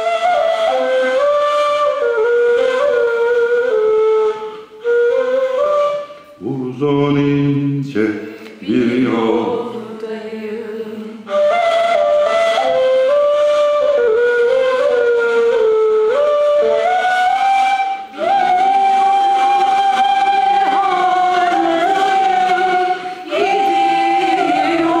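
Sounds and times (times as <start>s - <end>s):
end-blown cane flute melody: 0.0s - 7.8s, 11.2s - 25.0s.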